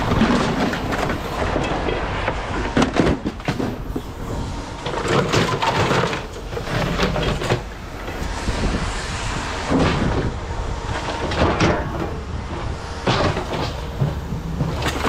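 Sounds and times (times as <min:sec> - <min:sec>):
low rumble: 0:00.0 - 0:15.0
scrap metal clanking and banging: 0:00.0 - 0:15.0.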